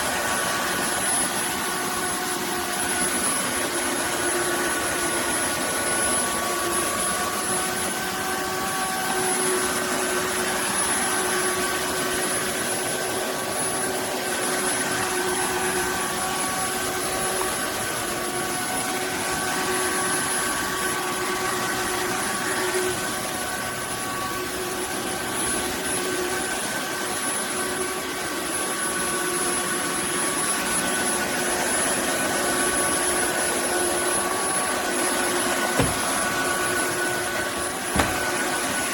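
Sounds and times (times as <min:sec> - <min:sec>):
vacuum mop motor whine: 0:00.0 - 0:38.9.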